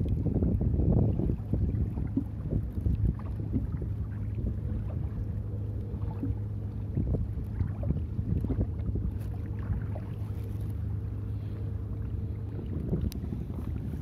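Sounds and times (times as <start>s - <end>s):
low steady hum: 0.0s - 14.0s
waves lapping against a hull: 0.0s - 14.0s
wind buffeting microphone: 0.0s - 14.0s.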